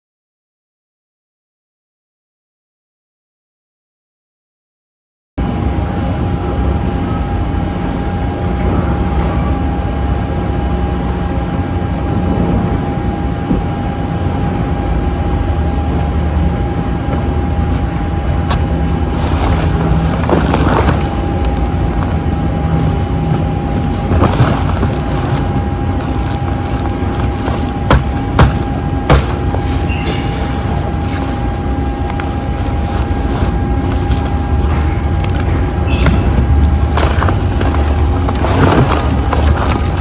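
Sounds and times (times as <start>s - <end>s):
truck engine running: 5.4s - 40.0s.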